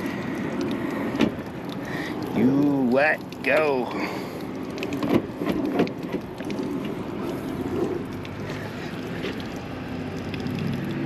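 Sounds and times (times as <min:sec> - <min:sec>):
air conditioning unit drone: 0:00.0 - 0:11.0.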